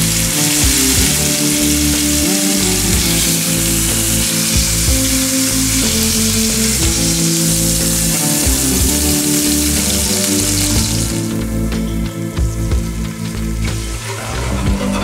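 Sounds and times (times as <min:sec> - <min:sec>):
meat sizzling in hot oil: 0:00.0 - 0:14.5
background music: 0:00.0 - 0:15.0.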